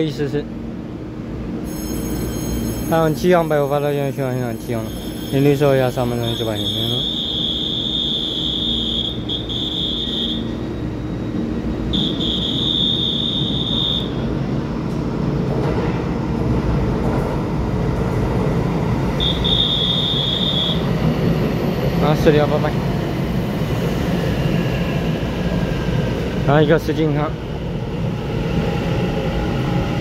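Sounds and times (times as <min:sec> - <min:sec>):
train rumbling past: 0:00.0 - 0:30.0.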